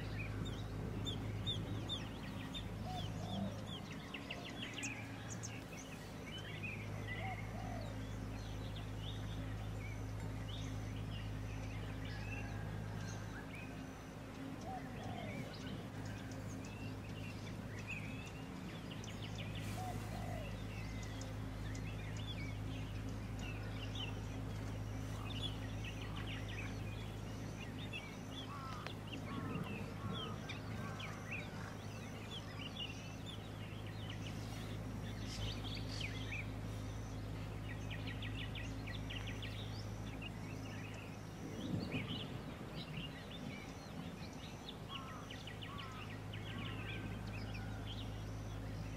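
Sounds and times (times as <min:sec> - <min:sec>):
small birds chirping: 0:00.0 - 0:48.9
steady low hum: 0:00.0 - 0:48.9.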